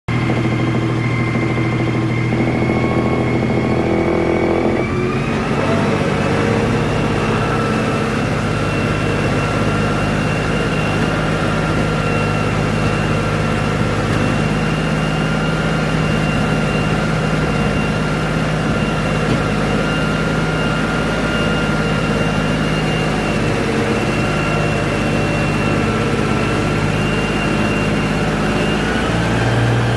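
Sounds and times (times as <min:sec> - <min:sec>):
higher whine: 0:00.1 - 0:29.9
tractor diesel engine under load: 0:00.1 - 0:29.9.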